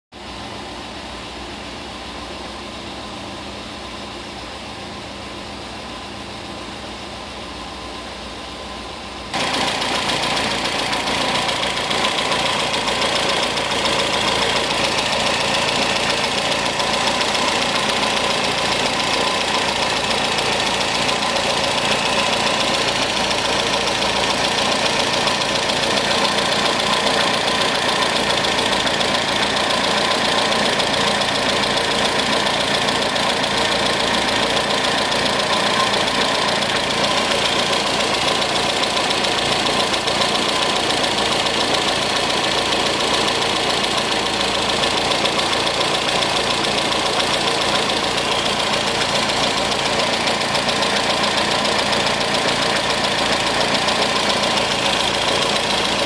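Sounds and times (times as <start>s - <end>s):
car engine idling: 0.3s - 56.0s.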